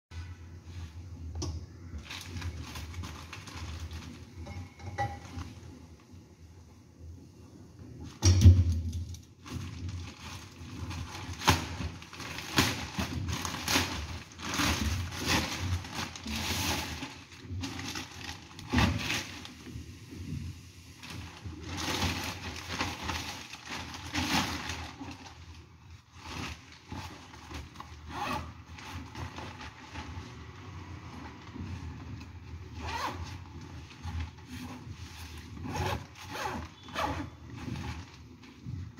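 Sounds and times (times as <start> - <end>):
plastic packaging crinkling: 1.8 - 6.1, 9.0 - 20.3, 21.0 - 38.9.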